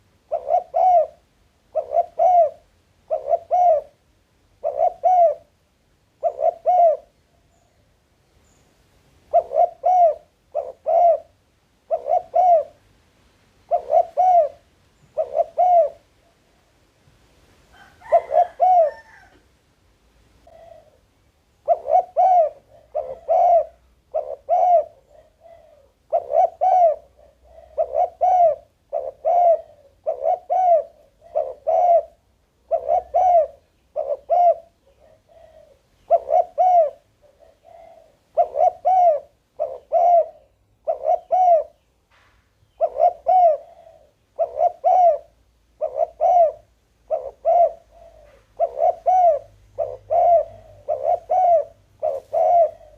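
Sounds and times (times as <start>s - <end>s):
dove cooing: 0.0s - 4.0s, 4.6s - 5.5s, 6.2s - 7.8s, 9.3s - 12.8s, 13.6s - 16.7s, 17.7s - 19.4s, 20.4s - 41.8s, 42.6s - 52.9s.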